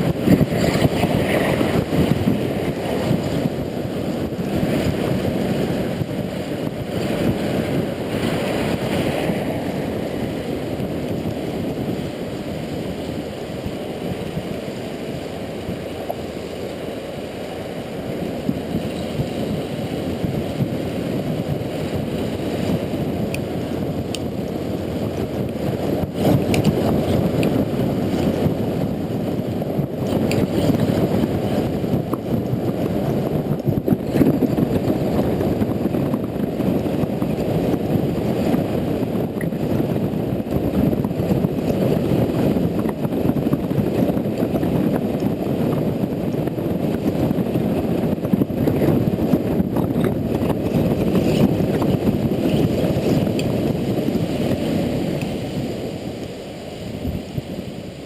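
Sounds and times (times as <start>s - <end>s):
motorcycle road noise: 0.0s - 58.0s
wind rush on microphone: 0.0s - 58.0s.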